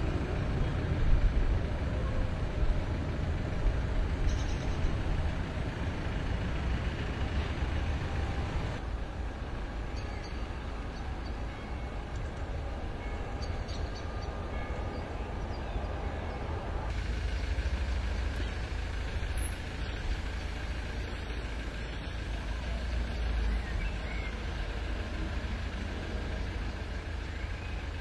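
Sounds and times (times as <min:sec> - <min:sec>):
vehicle engines rumbling: 0:00.0 - 0:28.0.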